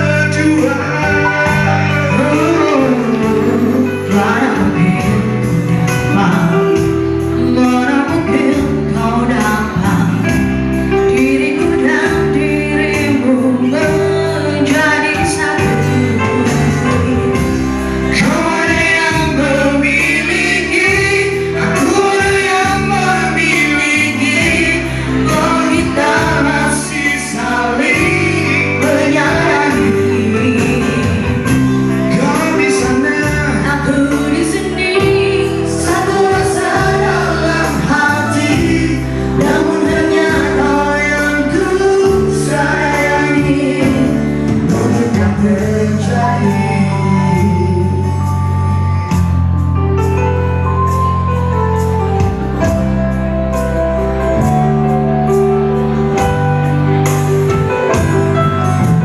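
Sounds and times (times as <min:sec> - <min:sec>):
man and woman singing duet: 0:00.0 - 0:49.2
pop backing music with beat: 0:00.0 - 0:59.0.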